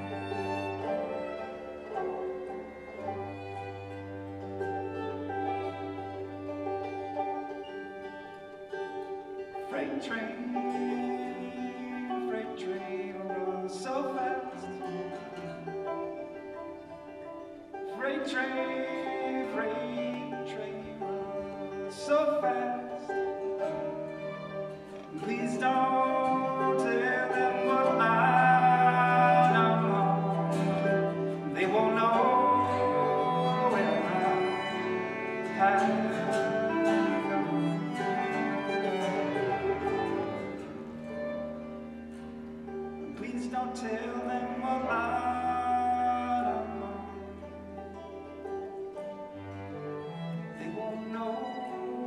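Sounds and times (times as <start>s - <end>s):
folk band instrumental: 0.0s - 52.0s.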